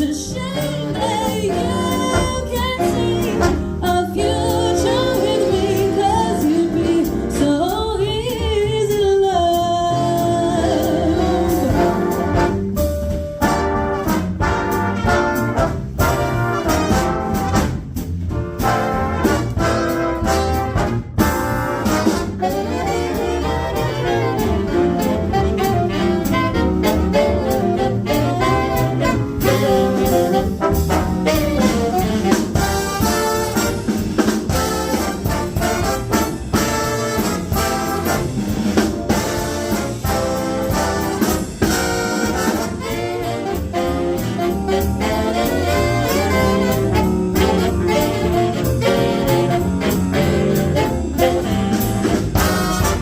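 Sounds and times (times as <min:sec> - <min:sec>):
jazz big band playing: 0:00.0 - 0:53.0
cymbal and drum beats: 0:10.5 - 0:53.0.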